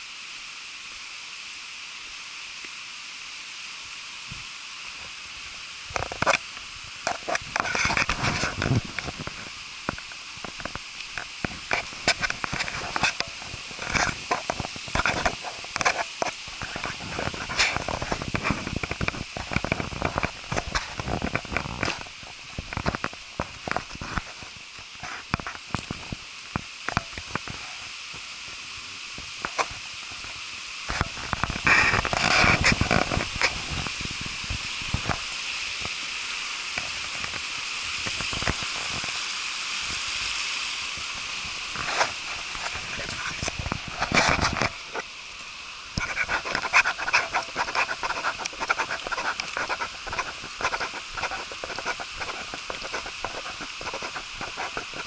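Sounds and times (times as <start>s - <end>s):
waterfall rushing: 0.0s - 55.0s
crackles and knocks: 4.2s - 55.0s.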